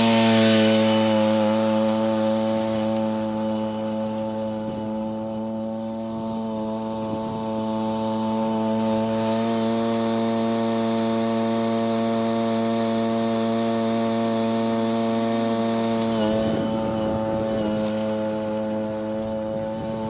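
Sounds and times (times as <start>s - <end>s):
gas engine humming: 0.0s - 20.0s.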